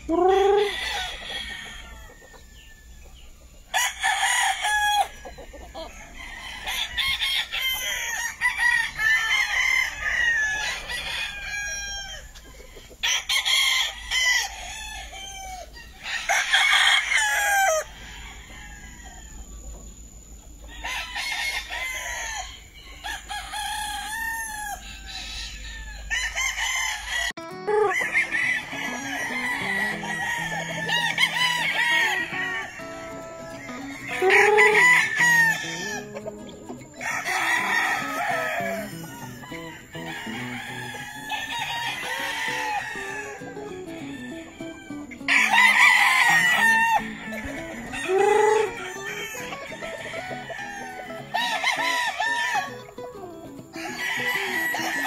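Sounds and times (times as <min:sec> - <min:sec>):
roosters crowing: 0:00.0 - 0:55.0.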